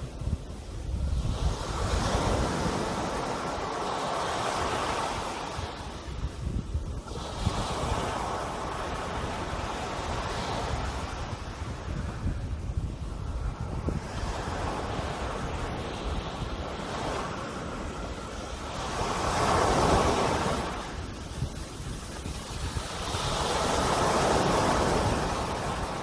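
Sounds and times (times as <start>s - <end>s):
sea waves surging: 0.0s - 26.0s
wind rumble on microphone: 0.0s - 26.0s.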